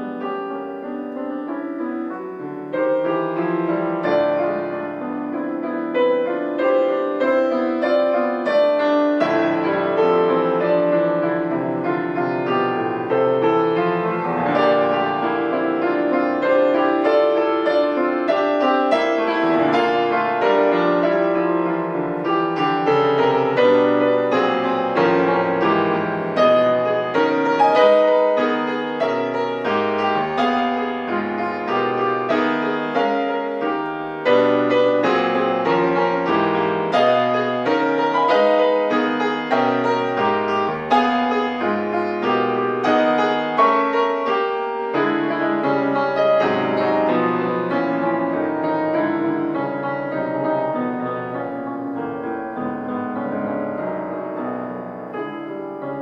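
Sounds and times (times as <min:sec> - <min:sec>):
solo piano classical piece: 0:00.0 - 0:56.0.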